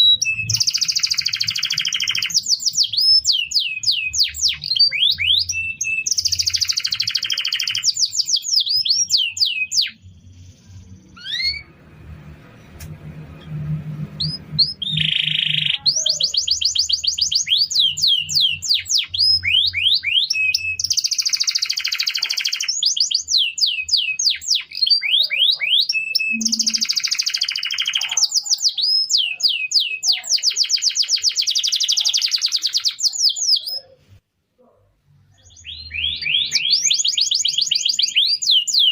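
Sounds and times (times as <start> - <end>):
canary singing trills: 0.0 - 11.9, 13.4 - 38.9.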